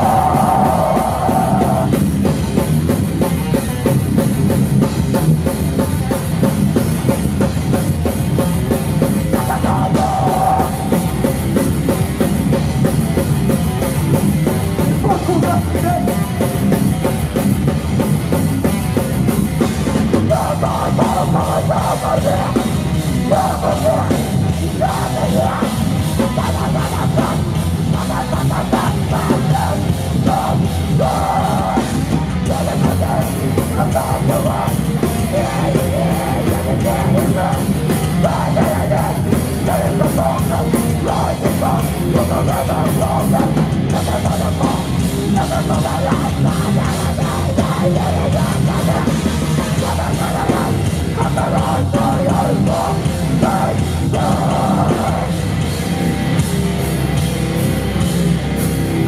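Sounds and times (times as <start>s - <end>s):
bass guitar: 0.0s - 59.0s
distorted electric guitar: 0.0s - 59.0s
fast drums: 0.0s - 59.0s.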